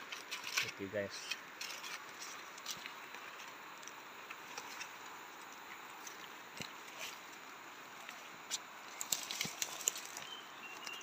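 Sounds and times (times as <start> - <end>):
faint steady background hiss: 0.0 - 11.0.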